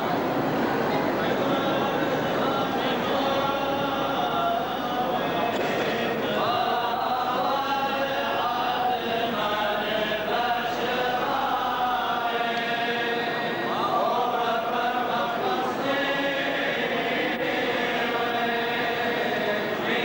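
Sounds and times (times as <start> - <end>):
voices chanting a hymn: 0.0 - 20.0.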